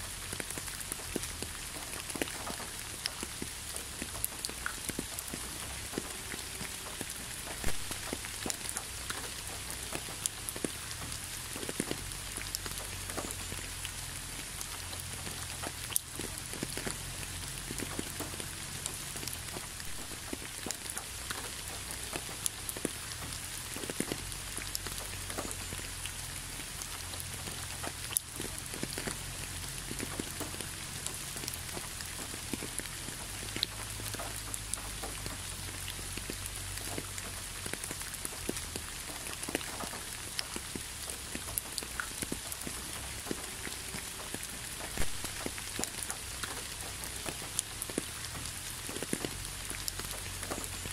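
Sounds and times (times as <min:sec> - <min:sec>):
gentle rain hiss: 0:00.0 - 0:50.9
ticks of single raindrops: 0:00.0 - 0:50.9.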